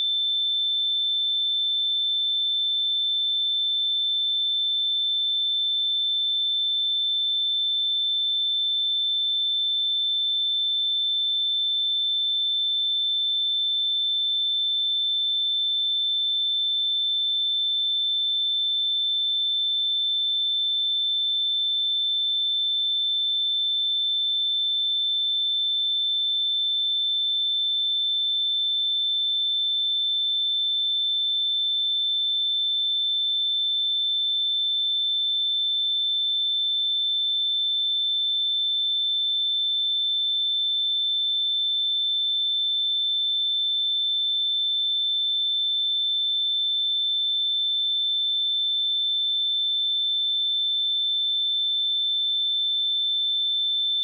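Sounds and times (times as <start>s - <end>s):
high-pitched sine-wave test tone: 0.0s - 54.0s.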